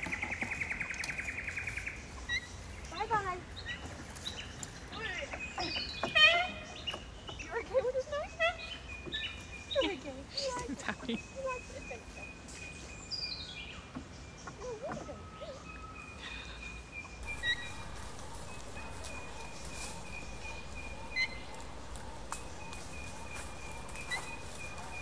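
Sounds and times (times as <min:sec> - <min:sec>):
birds calling: 0:00.0 - 0:25.0
soft outdoor background: 0:00.0 - 0:25.0.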